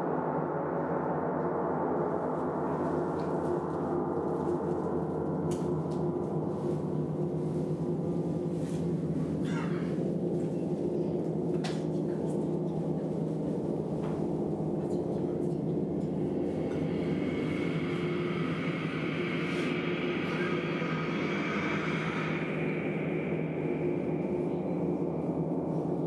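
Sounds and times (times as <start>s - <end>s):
gong drone: 0.0s - 26.0s.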